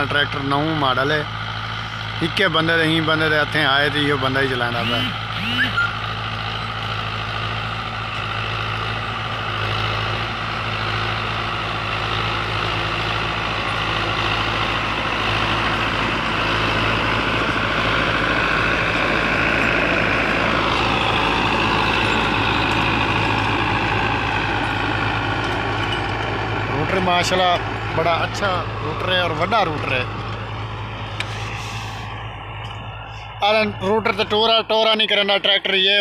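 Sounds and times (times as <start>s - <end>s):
tractor diesel engine under load: 0.0s - 36.0s.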